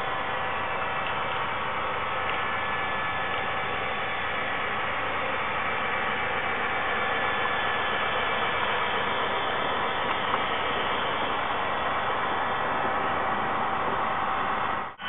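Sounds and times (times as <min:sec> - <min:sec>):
diesel engine drone: 0:00.0 - 0:15.0
hiss: 0:00.0 - 0:15.0.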